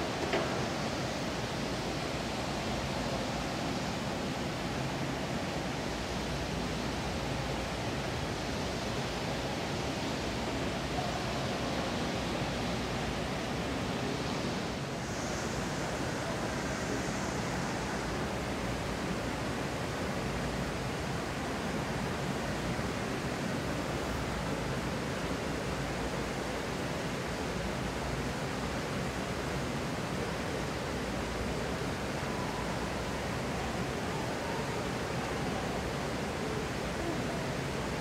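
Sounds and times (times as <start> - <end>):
room ambience rushing hiss: 0.0 - 38.0.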